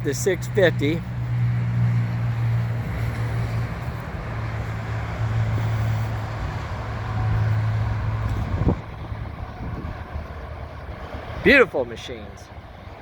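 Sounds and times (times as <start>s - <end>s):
rushing background noise: 0.0s - 13.0s.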